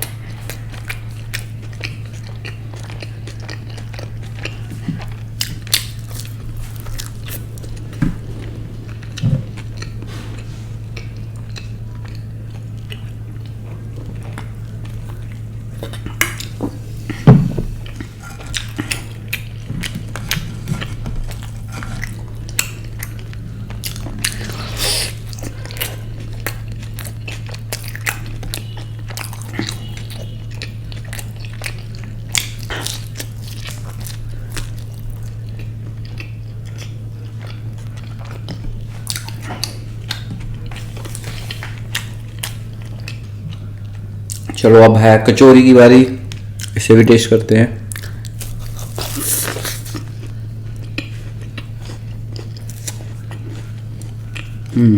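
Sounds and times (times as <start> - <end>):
biting and chewing pizza: 0.0 - 54.9
low hum: 0.0 - 54.9.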